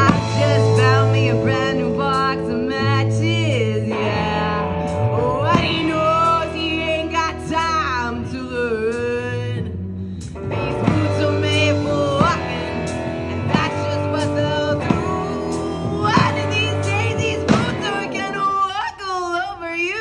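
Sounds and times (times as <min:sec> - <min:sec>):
sliding lead melody: 0:00.0 - 0:18.9
live band with guitars bass and drums: 0:00.0 - 0:19.9.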